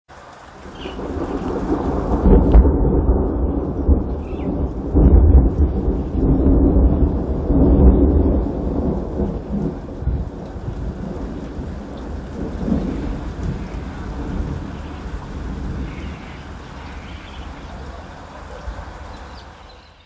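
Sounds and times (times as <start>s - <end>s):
rain hissing: 0.1s - 20.0s
rolling thunder: 0.4s - 20.0s.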